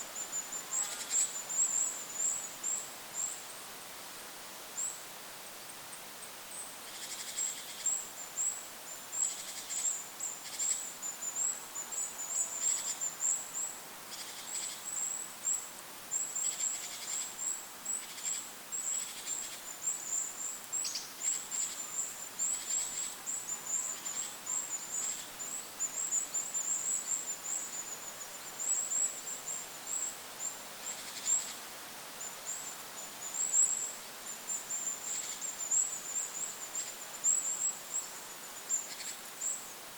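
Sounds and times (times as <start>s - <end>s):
wind hiss: 0.0s - 39.9s.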